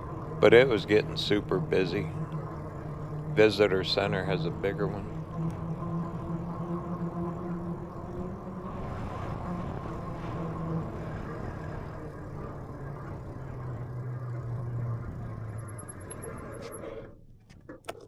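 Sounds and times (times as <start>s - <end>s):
motor hum: 0.0s - 17.8s
wind: 0.0s - 18.0s.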